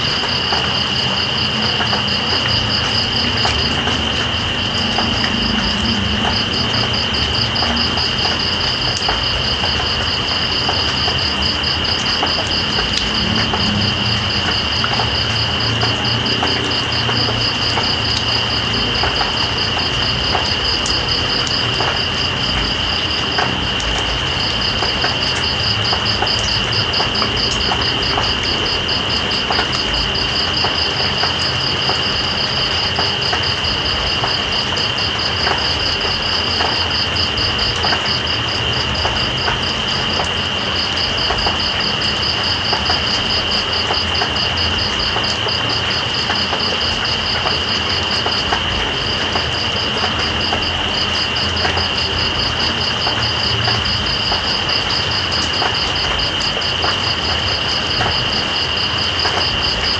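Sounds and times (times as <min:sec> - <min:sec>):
high continuous insect trill: 0:00.0 - 0:59.9
rain hissing: 0:00.0 - 0:59.9.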